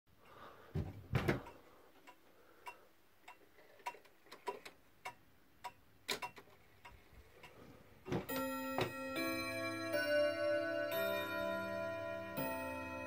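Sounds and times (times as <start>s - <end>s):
pendulum clock ticking: 1.4s - 13.0s.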